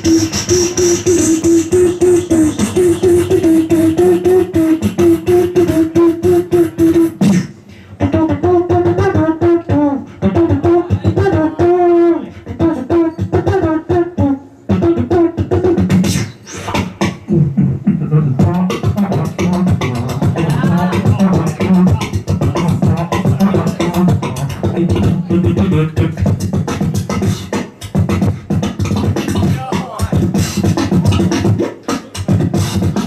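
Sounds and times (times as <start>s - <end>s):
person beatboxing: 0.0s - 33.0s.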